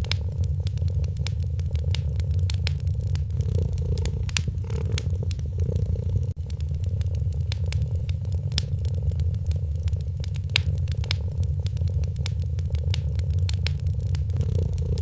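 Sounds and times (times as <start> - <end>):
cat purring: 0.0 - 15.0
wood fire crackling and popping: 0.0 - 15.0.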